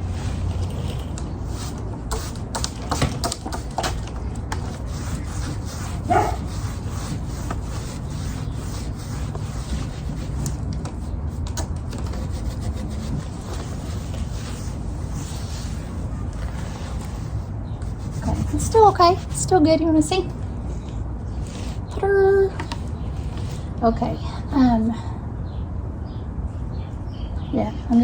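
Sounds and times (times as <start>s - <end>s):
hand rubbing on rough wood: 0.0s - 20.1s, 21.3s - 23.8s.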